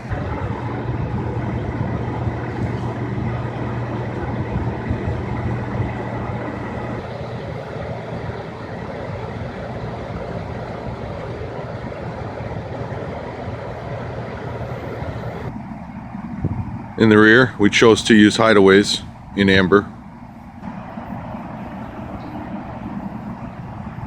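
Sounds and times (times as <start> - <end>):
pickup truck engine idling: 0.0 - 24.0.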